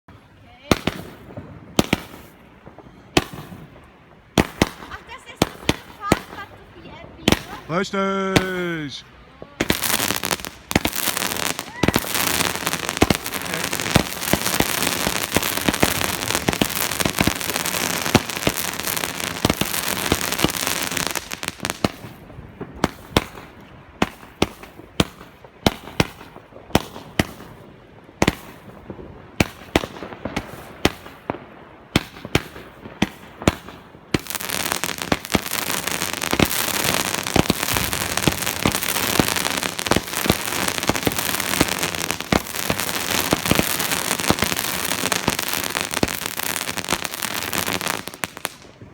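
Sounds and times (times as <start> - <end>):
firecrackers crackling: 0.1 - 48.9
firework bangs: 0.6 - 48.9.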